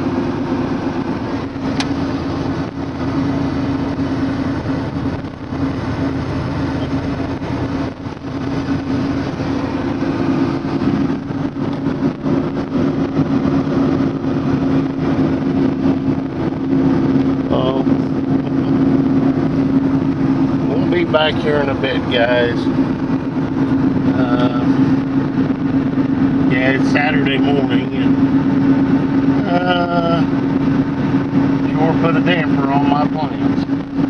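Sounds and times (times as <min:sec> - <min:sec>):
engine humming steadily: 0:00.0 - 0:34.0.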